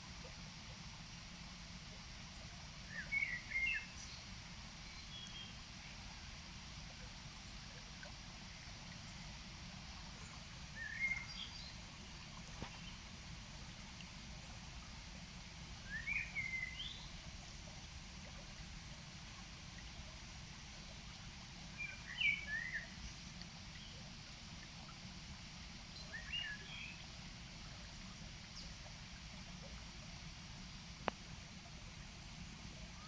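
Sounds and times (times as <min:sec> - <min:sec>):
river running: 0:00.0 - 0:33.0.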